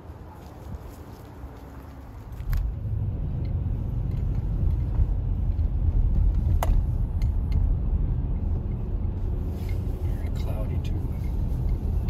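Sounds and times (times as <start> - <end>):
car driving rumble inside cabin: 2.3 - 12.0.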